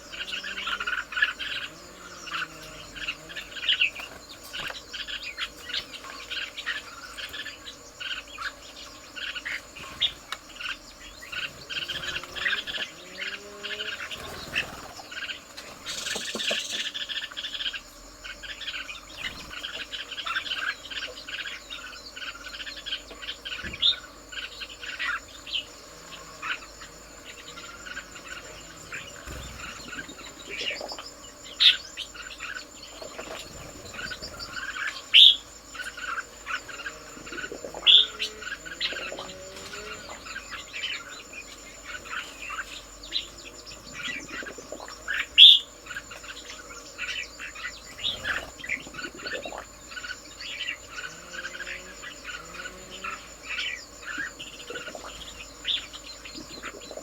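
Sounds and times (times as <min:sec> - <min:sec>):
birds chirping: 0:00.0 - 0:57.0
high-pitched insect drone: 0:00.0 - 0:57.0.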